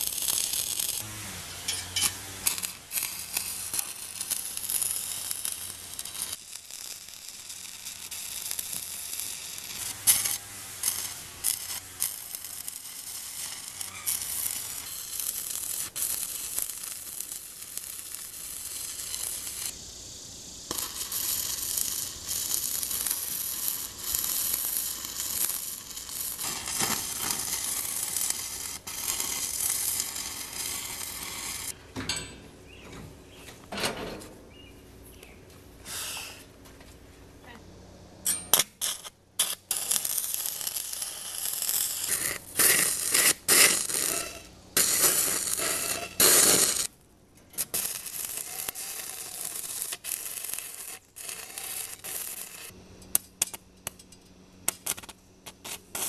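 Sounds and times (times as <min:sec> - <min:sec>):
welding arc crackling: 0:00.0 - 0:31.8, 0:38.3 - 0:56.0.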